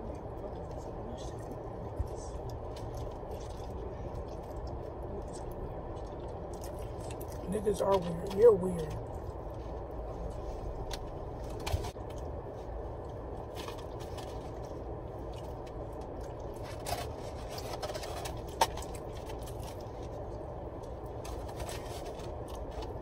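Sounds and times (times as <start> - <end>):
person chewing food: 0.0 - 7.4, 9.0 - 23.0
low hum inside car: 0.0 - 23.0.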